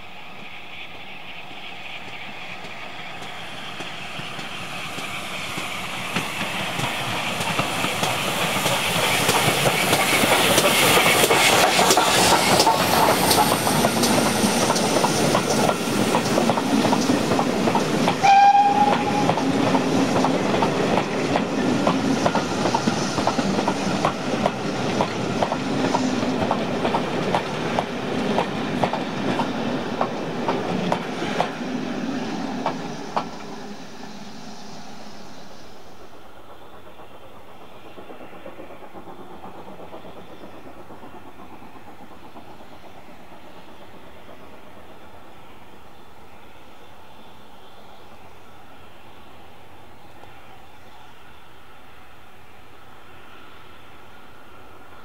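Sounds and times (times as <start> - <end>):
steam locomotive passing: 0.0 - 55.0.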